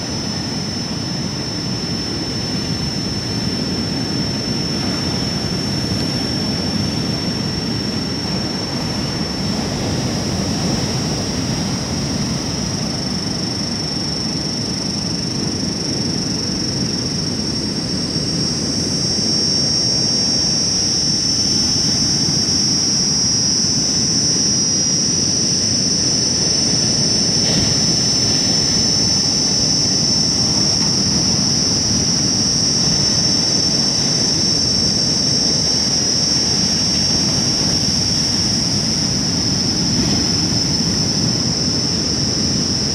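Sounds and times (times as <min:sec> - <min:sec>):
high-pitched whine: 0:00.0 - 0:42.9
steady rushing noise: 0:00.0 - 0:42.9.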